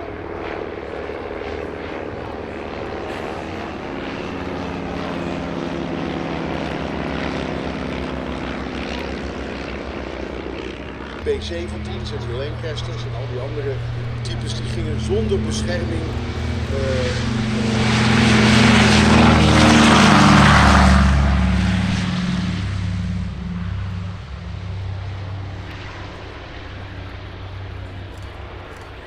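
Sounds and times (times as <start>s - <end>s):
propeller plane engine drone: 0.0s - 29.0s.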